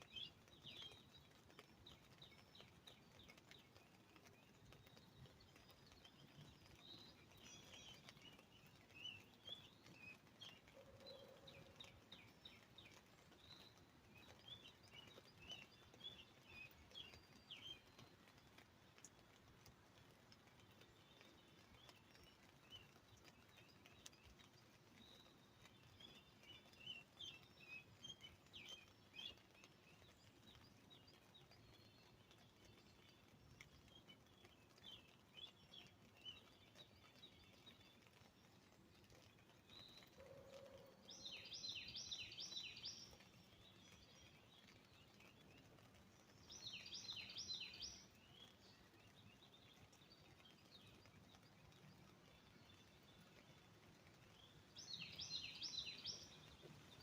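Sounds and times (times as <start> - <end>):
rain drips on umbrella: 0.0 - 57.0
songbirds chirping: 0.0 - 57.0.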